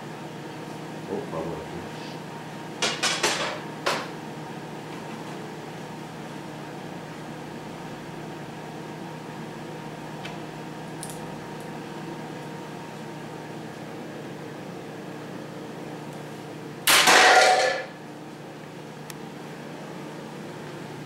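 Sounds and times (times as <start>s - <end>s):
room tone hum: 0.0s - 21.0s.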